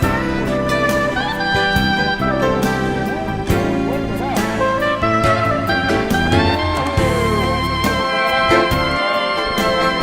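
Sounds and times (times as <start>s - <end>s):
instrumental music with guitar: 0.0s - 10.0s.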